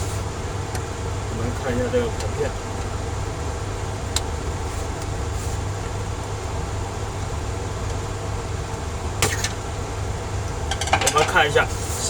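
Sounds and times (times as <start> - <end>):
cabinet fan blowing air: 0.0 - 12.0.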